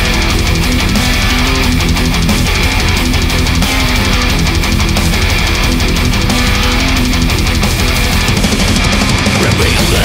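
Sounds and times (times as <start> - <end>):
heavy metal music: 0.0 - 10.0.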